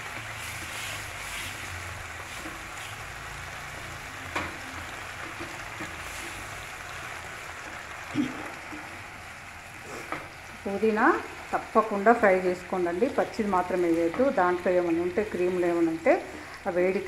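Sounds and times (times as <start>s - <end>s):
tomato sizzling in oil: 0.0s - 17.0s.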